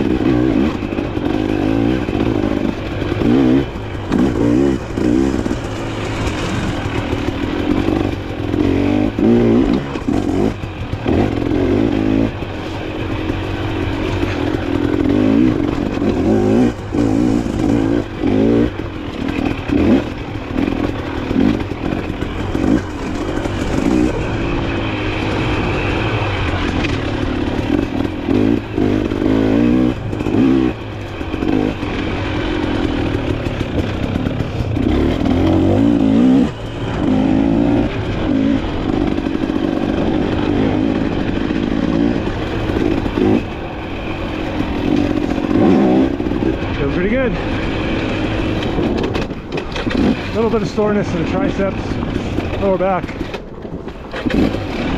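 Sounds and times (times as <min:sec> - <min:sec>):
clattering over rough ground: 0:00.0 - 0:54.9
dirt bike engine revving: 0:00.0 - 0:54.9.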